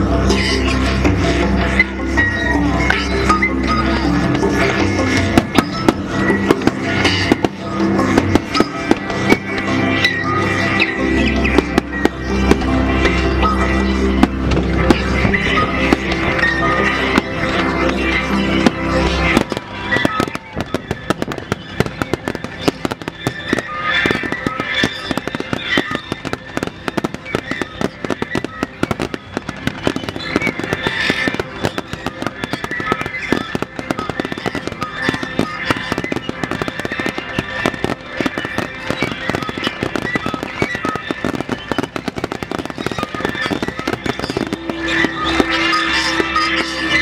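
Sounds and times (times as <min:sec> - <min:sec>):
show music playing: 0:00.0 - 0:47.0
fireworks crackling: 0:02.8 - 0:47.0.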